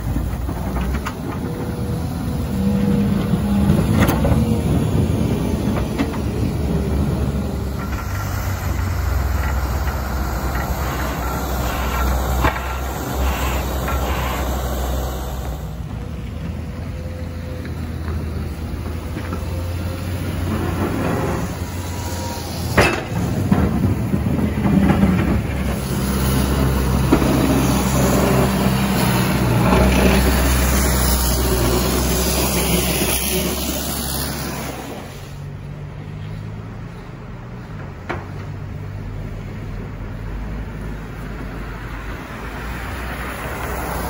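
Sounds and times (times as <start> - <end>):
tractor engine droning: 0.0 - 35.5
heavy plow equipment passing: 0.0 - 44.0.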